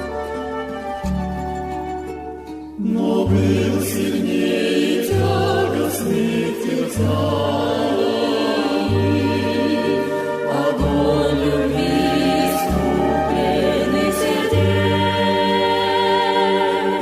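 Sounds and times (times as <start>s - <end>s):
instrumental accompaniment: 0.0s - 17.0s
choir singing: 2.8s - 17.0s.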